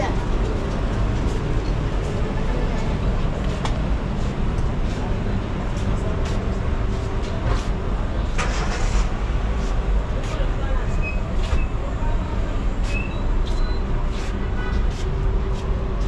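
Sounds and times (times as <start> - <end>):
city street rumble: 0.0 - 16.0
faint voices: 0.0 - 16.0.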